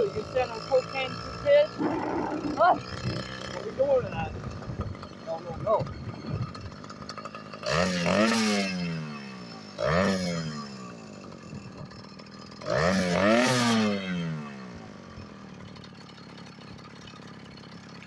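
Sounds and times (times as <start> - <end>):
two-stroke engine revving: 0.0 - 18.0.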